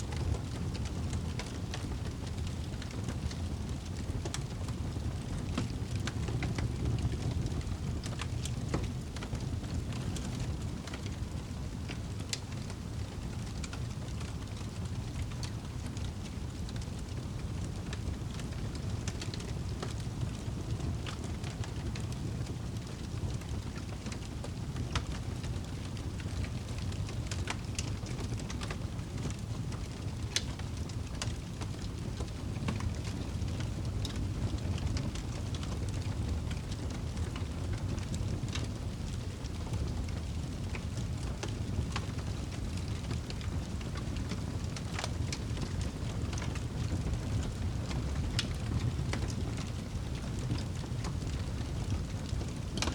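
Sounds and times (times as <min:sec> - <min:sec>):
campfire crackling and popping: 0:00.1 - 0:52.9.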